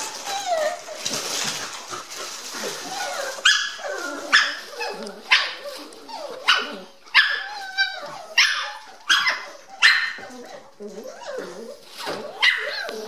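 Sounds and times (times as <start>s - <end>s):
puppies barking: 0.0s - 13.0s
puppies yipping and grumbling: 0.0s - 13.0s.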